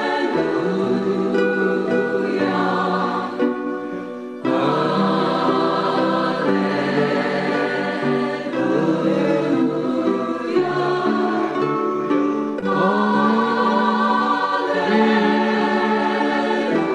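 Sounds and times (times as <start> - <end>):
choir singing sustained chords: 0.0 - 16.9.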